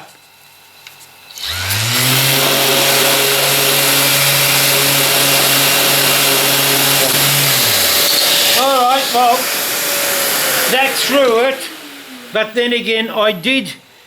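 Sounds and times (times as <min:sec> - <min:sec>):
sander running: 0:01.3 - 0:13.4.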